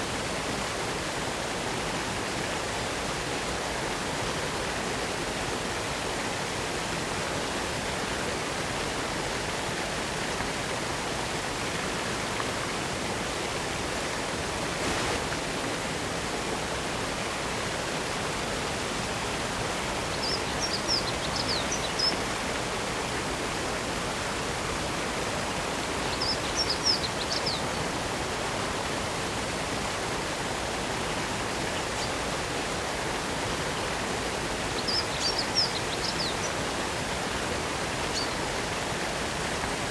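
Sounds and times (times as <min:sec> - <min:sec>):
waterfall rushing over rock: 0:00.0 - 0:39.9.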